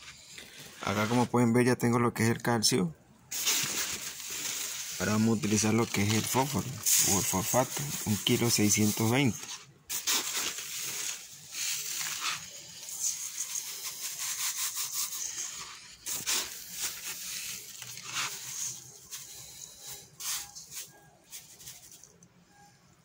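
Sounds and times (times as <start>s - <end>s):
paper sack rustling: 0.0s - 1.4s, 3.3s - 22.2s
plastic scoop scraping grains: 0.0s - 1.6s, 3.3s - 22.3s
granules poured into steel bowl: 3.3s - 22.2s.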